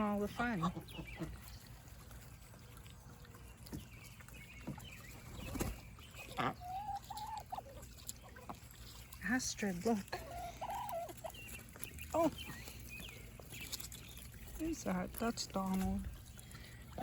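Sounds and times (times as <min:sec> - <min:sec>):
geese and ducks calling softly: 0:00.0 - 0:17.0.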